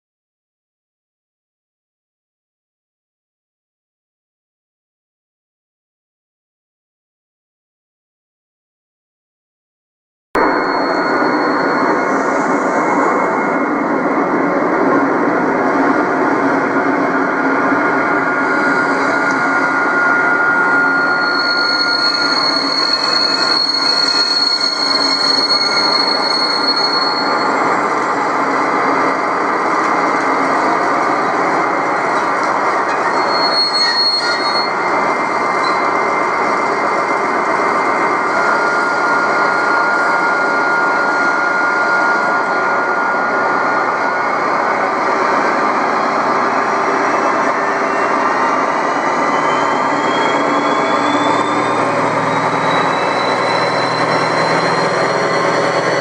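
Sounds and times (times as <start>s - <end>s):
model train rolling and squealing: 10.4s - 56.0s
rising whine: 10.4s - 56.0s.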